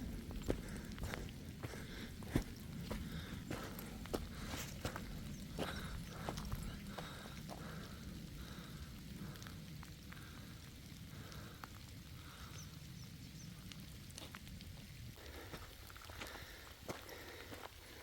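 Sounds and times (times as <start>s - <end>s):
low rumble: 0.0s - 16.0s
faint steady rain: 0.0s - 18.0s
raindrops ticking: 0.0s - 18.0s.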